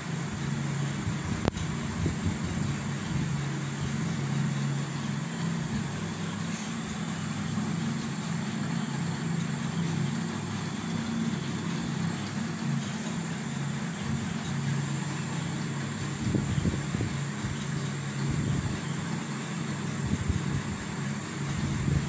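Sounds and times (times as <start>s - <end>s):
constant hiss: 0.0s - 22.0s
motor humming: 0.0s - 22.0s.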